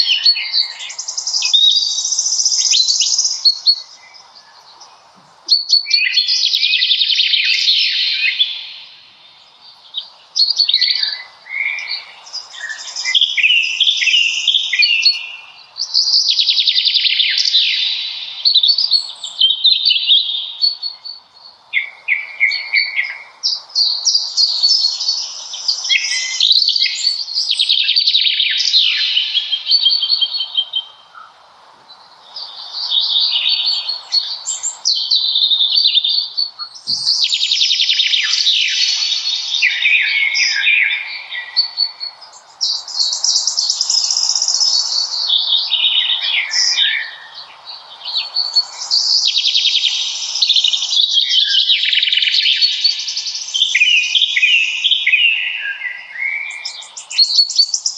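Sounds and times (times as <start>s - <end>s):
faint steady hiss: 0.0s - 57.9s
songbirds singing: 0.0s - 57.9s.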